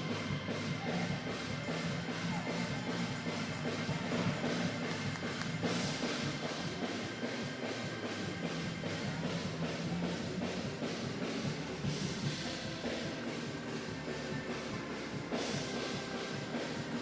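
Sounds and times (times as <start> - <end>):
church band music: 0.0 - 17.0
drum kit beat: 0.0 - 17.0.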